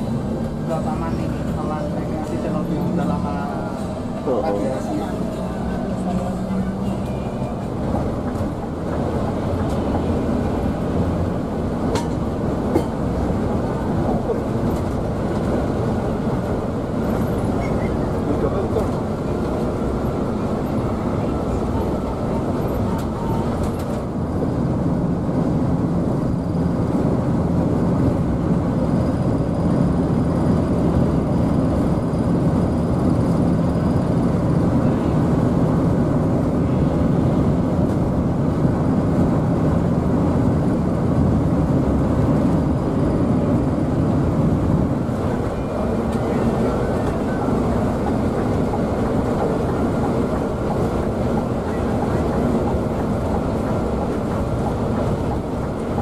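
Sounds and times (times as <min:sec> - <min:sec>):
coach engine drone: 0:00.0 - 0:56.0.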